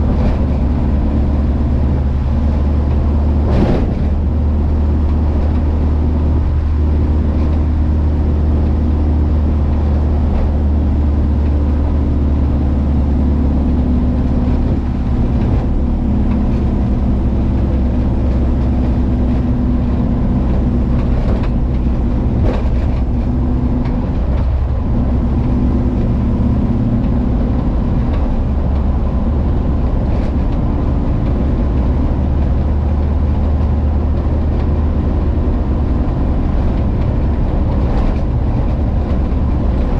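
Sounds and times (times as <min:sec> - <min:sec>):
road noise: 0:00.0 - 0:39.9
van engine droning: 0:00.0 - 0:39.9.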